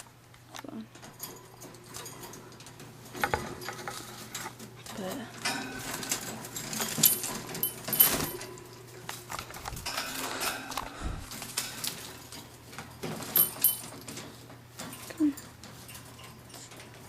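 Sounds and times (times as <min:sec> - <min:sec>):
metal birdcage rattling: 0:00.9 - 0:17.0.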